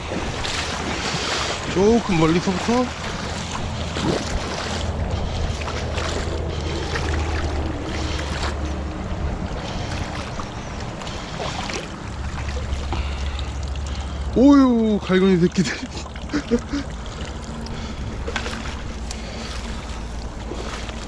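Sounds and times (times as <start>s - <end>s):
boots splashing through water: 0.0s - 21.0s
low steady rumble: 0.0s - 21.0s.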